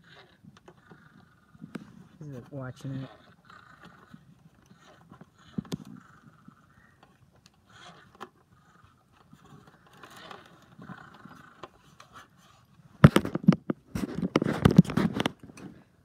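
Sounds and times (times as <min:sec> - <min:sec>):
scratching on plastic: 0:00.0 - 0:15.8.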